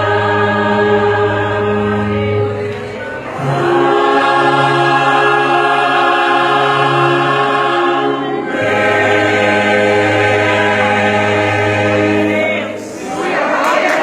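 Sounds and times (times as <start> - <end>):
choir singing chords: 0.0 - 14.0.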